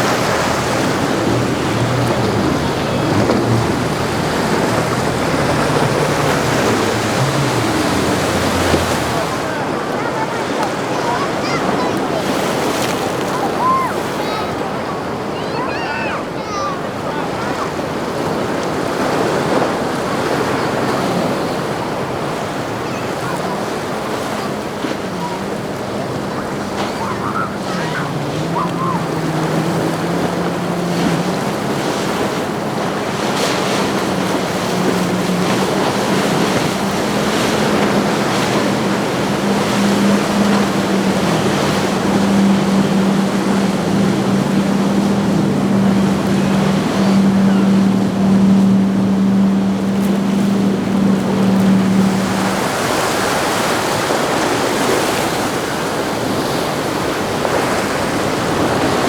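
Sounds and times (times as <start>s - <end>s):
boat engines droning: 0.0s - 59.0s
surf: 0.0s - 59.0s.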